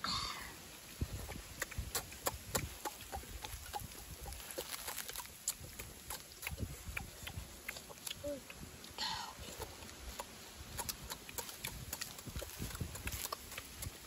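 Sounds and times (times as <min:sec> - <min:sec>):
rustle: 0:00.0 - 0:14.0
chewing clicks and smacks: 0:01.2 - 0:14.0.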